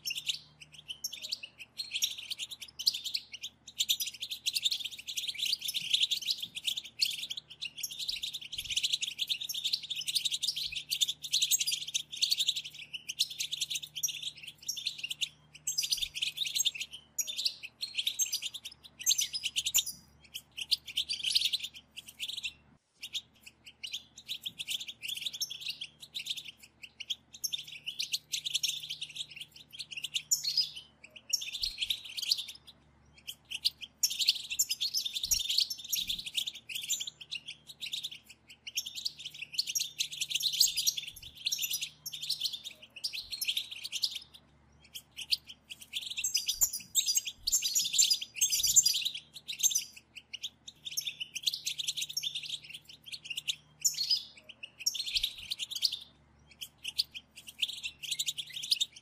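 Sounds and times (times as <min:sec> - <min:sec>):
goldfinches twittering: 0:00.0 - 0:59.0.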